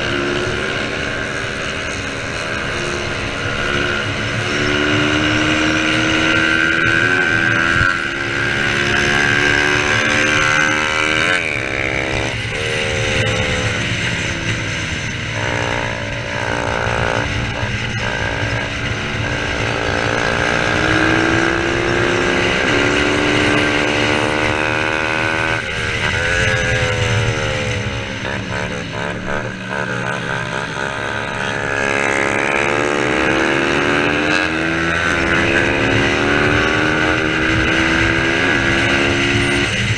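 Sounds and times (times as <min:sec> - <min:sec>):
racing motorcycles accelerating: 0:00.0 - 0:39.9.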